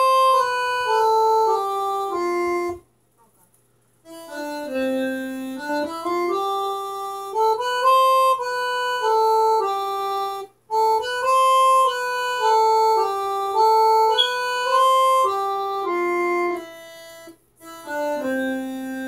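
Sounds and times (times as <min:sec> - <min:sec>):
organ playing slow melody: 0:00.0 - 0:02.8, 0:04.1 - 0:19.0.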